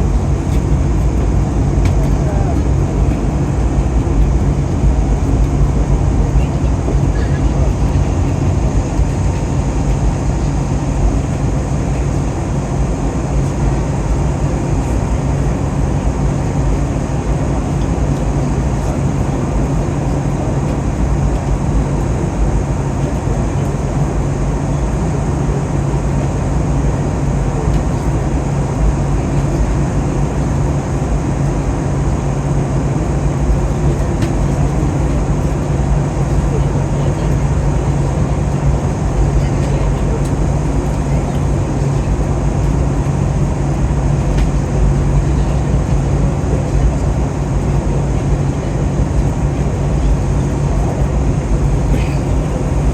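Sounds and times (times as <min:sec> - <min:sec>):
airplane engine and airflow noise: 0:00.0 - 0:52.9
constant low hum: 0:00.0 - 0:52.9.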